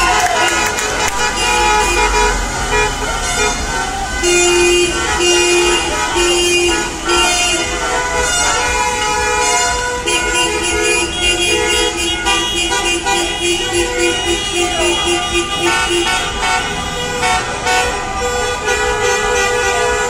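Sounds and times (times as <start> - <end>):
car horns honking: 0.0 - 20.0
car horn short rapid toots: 0.1 - 20.0.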